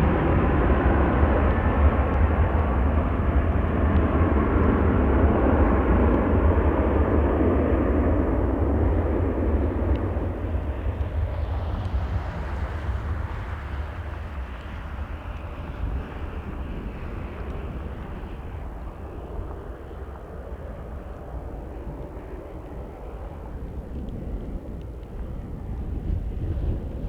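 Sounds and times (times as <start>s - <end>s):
airplane engine: 0.0s - 27.0s
constant low rumble: 0.0s - 27.0s.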